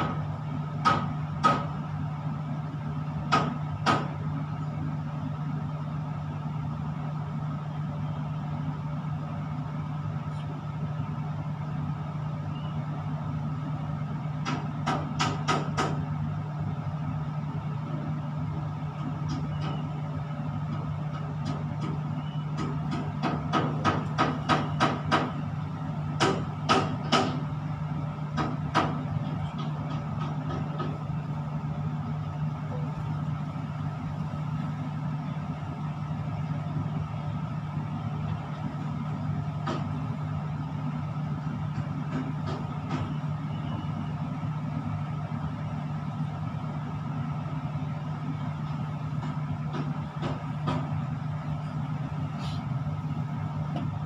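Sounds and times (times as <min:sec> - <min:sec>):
low machinery drone: 0:00.0 - 0:54.0.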